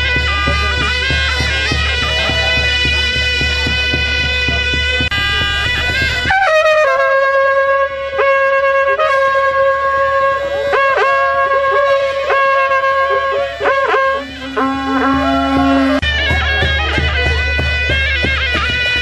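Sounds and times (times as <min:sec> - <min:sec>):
drums beating: 0:00.0 - 0:19.0
wind instrument playing high note: 0:00.0 - 0:19.0.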